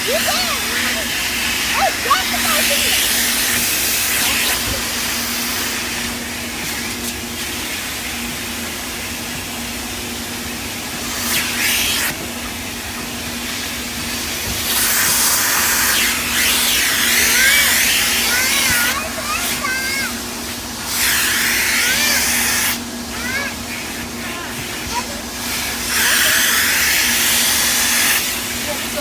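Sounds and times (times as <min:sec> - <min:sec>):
water spray hissing on car: 0:00.0 - 0:29.0.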